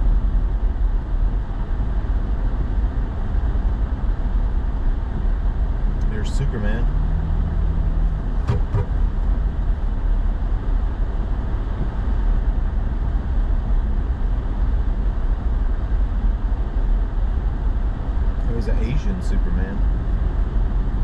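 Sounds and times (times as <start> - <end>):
truck road and engine rumble: 0.0 - 21.0.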